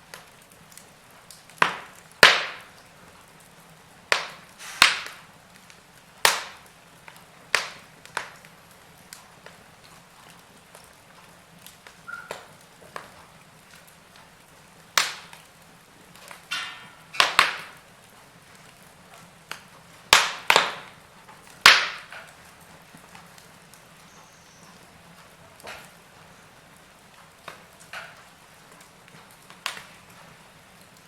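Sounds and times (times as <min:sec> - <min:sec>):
faint fire hiss: 0:00.0 - 0:31.0
wood fire crackling: 0:00.0 - 0:31.0.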